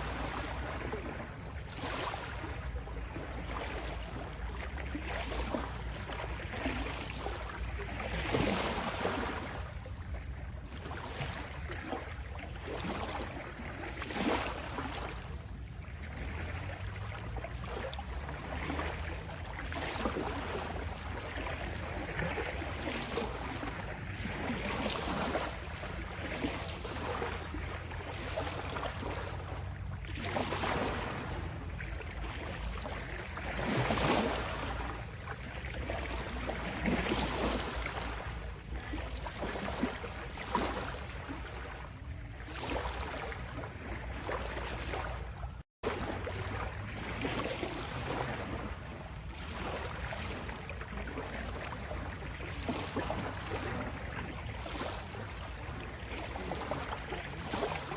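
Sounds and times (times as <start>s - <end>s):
small waves lapping on shore: 0.0s - 57.9s.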